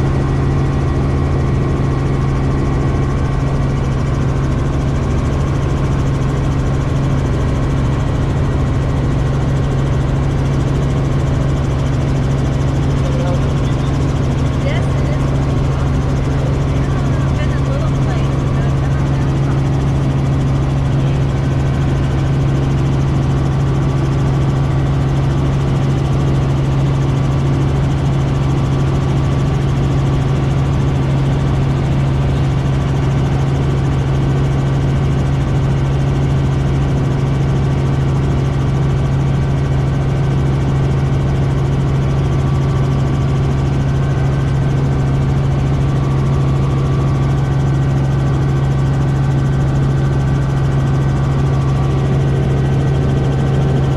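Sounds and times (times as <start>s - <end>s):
helicopter engine and rotors drone: 0.0s - 53.9s.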